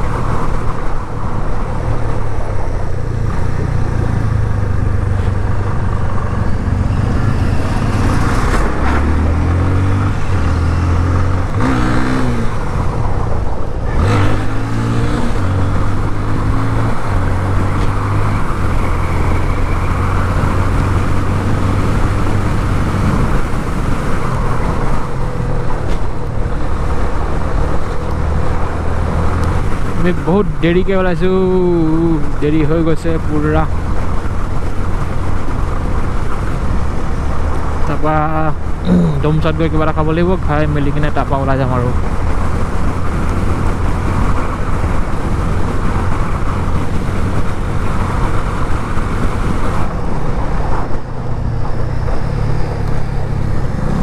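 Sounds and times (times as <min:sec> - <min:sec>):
wind noise on microphone: 0:00.0 - 0:37.9, 0:41.8 - 0:54.0
motorcycle engine hum: 0:00.0 - 0:54.0
trucks passing: 0:00.0 - 0:54.0.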